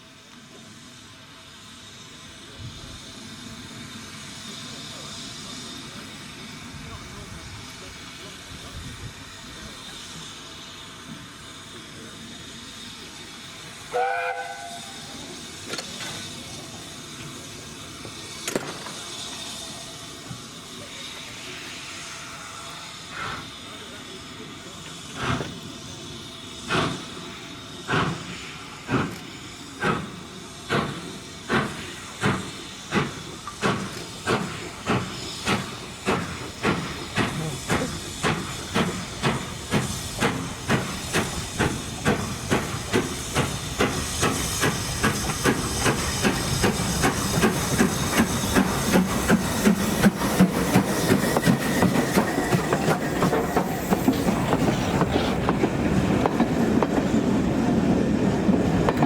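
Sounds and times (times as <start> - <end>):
steam hiss: 0.0 - 59.0
steam locomotive exhaust beats: 0.0 - 59.0.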